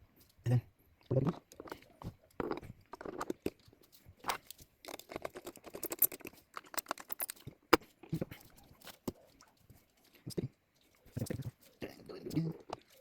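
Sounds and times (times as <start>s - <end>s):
computer parts clicking and rustling: 1.4s - 13.0s.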